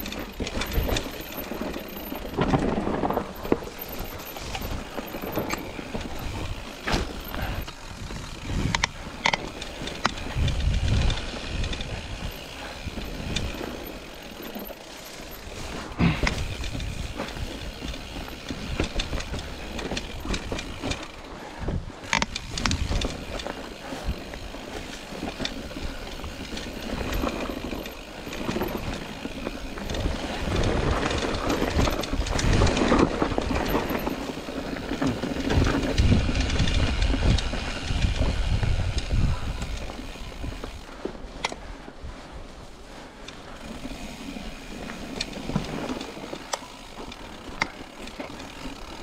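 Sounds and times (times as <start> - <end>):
mountain bike rattling over rocks: 0.0 - 49.0.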